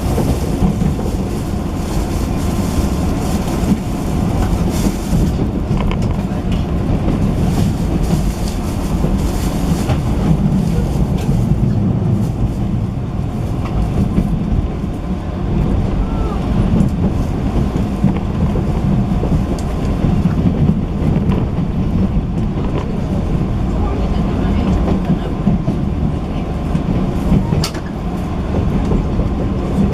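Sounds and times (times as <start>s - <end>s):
electric train running low rumble: 0.0s - 29.9s.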